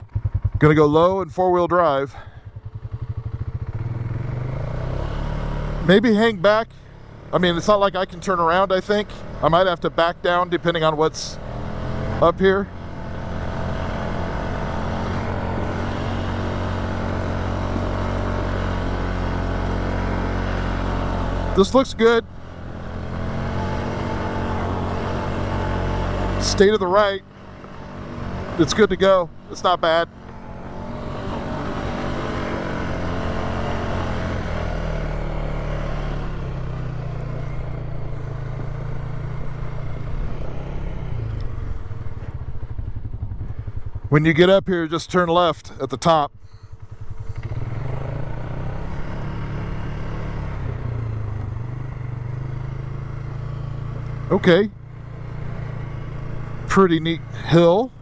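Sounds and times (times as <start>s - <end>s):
atv engine running under load: 0.0s - 58.0s.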